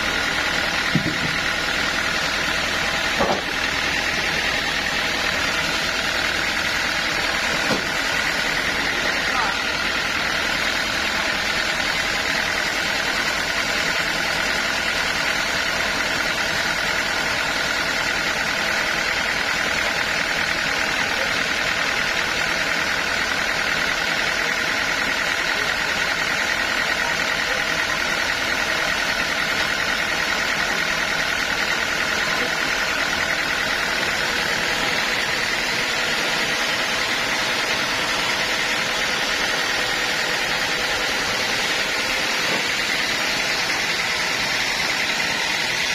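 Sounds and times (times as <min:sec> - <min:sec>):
sawmill machinery whining: 0:00.0 - 0:45.9.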